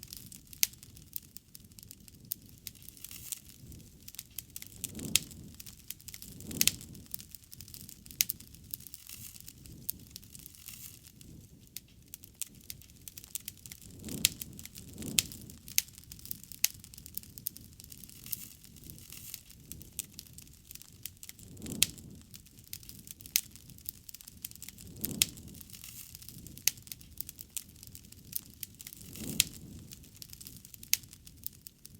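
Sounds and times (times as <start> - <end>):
low rumble of flames: 0.0 - 31.9
wood fire crackling: 0.0 - 31.9.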